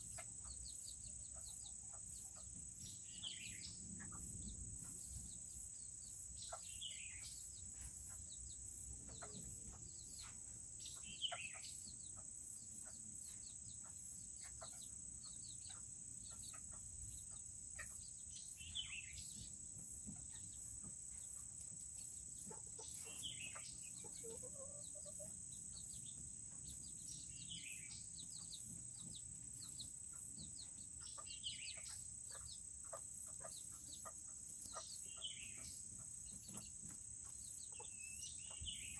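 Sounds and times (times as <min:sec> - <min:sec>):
chickens clucking quietly: 0:00.0 - 0:38.9
high insect trill: 0:00.0 - 0:38.9.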